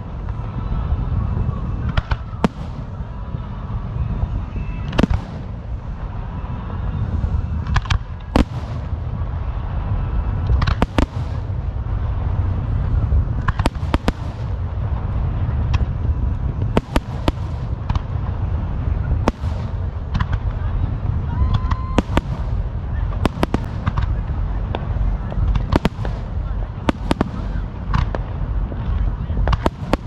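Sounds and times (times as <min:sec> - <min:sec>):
fireworks bangs: 0:00.0 - 0:30.0
low rumble of explosions: 0:00.0 - 0:30.0.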